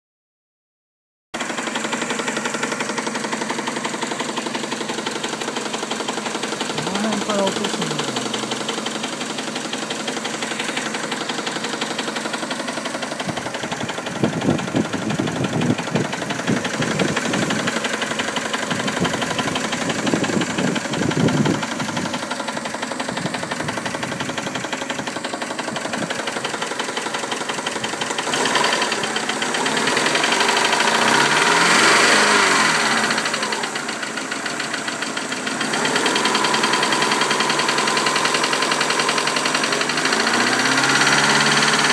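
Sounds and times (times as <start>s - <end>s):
car engine running and revving: 1.4s - 41.9s.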